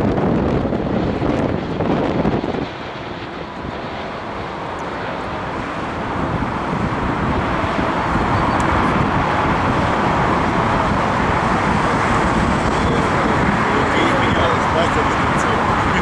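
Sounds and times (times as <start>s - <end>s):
jet airliner roar: 0.0s - 16.0s.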